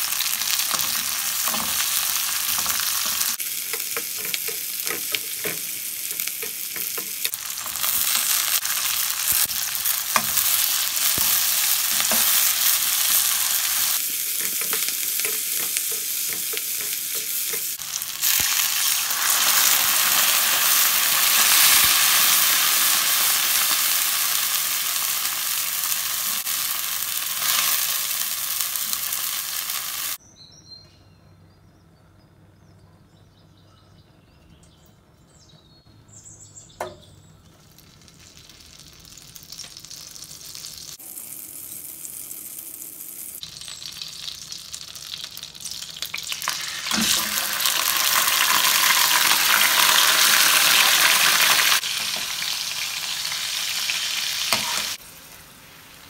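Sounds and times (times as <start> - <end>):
food sizzling in a wok: 0.0 - 30.2, 37.7 - 56.0.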